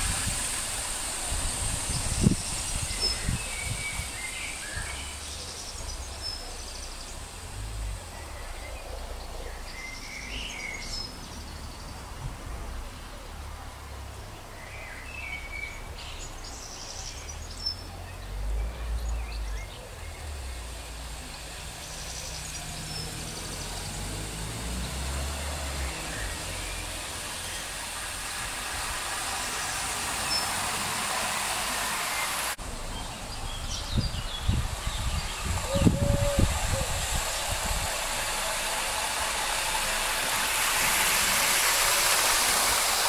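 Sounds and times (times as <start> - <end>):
model train whirring on track: 0.0 - 43.0.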